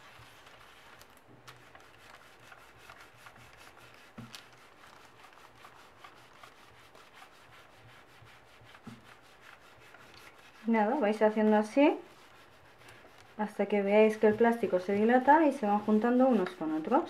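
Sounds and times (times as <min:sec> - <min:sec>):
iron rubbing over paper: 0:00.0 - 0:17.0.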